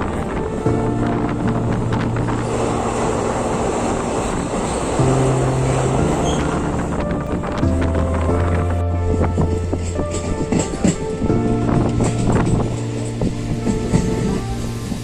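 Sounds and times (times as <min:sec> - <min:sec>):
background music with bass notes: 0:00.0 - 0:02.5, 0:05.0 - 0:15.0
moving train rumble: 0:00.0 - 0:15.0.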